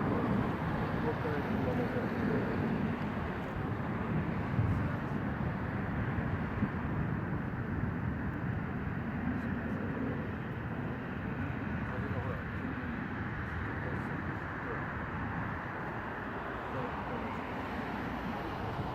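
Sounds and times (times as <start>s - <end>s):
jet engines rumbling: 0.0s - 18.9s.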